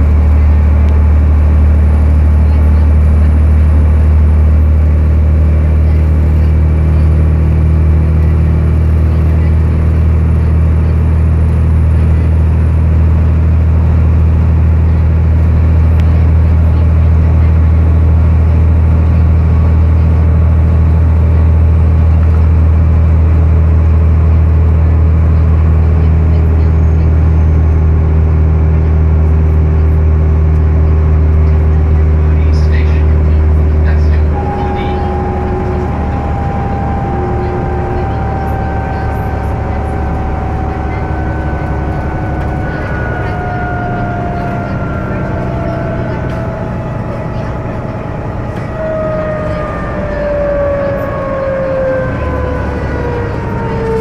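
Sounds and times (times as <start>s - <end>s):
bus diesel engine drone: 0.0s - 54.0s
road and tyre noise: 0.0s - 54.0s.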